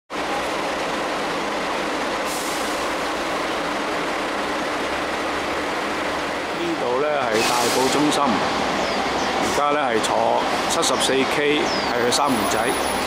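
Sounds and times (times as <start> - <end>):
road traffic noise: 0.1 - 13.0.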